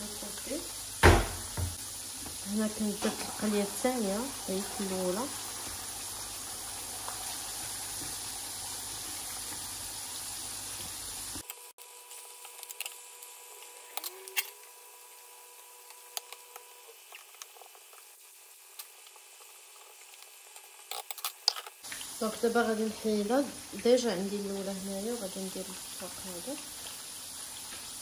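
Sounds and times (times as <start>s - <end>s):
hot oil sizzling in frying pan: 0.0s - 28.0s.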